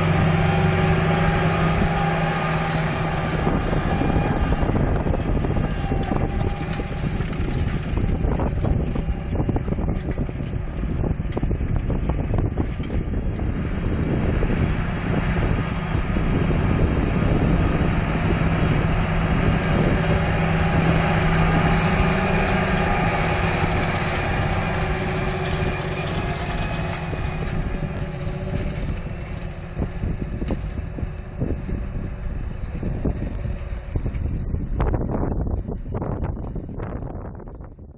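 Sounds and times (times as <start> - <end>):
tractor diesel engine droning: 0.0 - 37.8.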